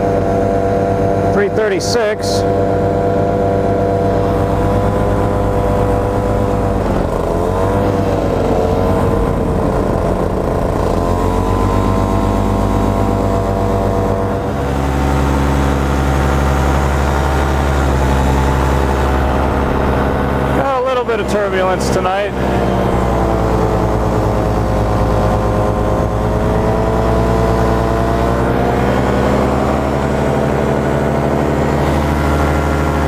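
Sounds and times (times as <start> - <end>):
heavy low rumble: 0.0 - 33.0
paramotor engine and propeller: 0.0 - 33.0.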